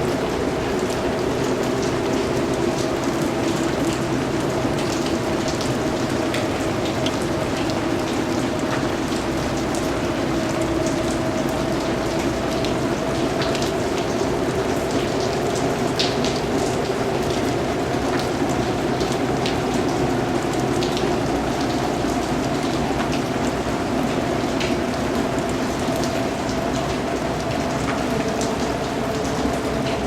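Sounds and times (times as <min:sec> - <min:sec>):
raindrops ticking: 0:00.0 - 0:30.0
steady rain hiss: 0:00.0 - 0:30.0.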